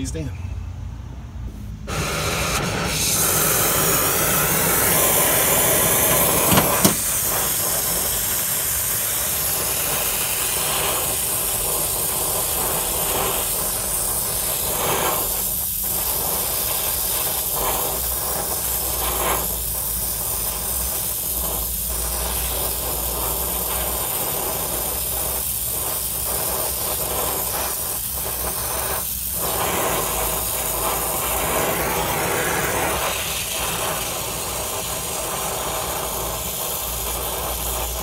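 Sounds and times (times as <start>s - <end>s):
brazing torch hissing: 1.8s - 38.0s.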